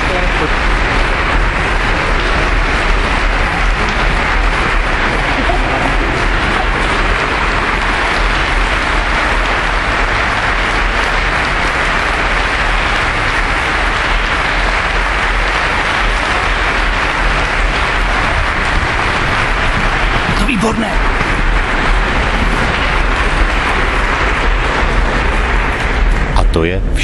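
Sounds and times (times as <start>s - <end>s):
audience applauding: 0.0s - 26.7s.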